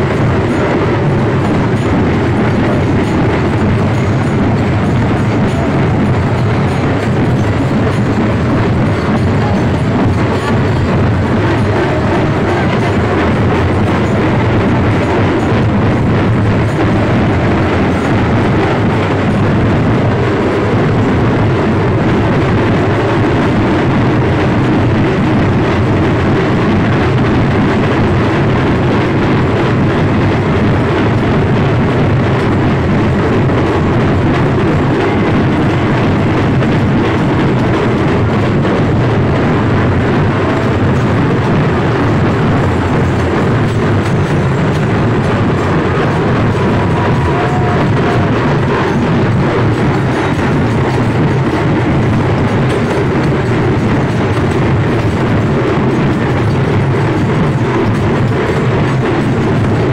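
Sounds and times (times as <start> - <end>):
drumming: 0.0 - 59.9
procession crowd din: 0.0 - 59.9.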